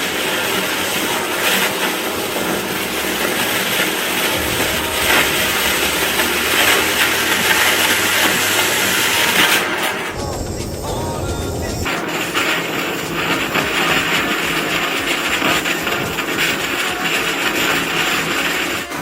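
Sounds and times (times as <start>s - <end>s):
loud mechanical noise with hiss: 0.0s - 19.0s.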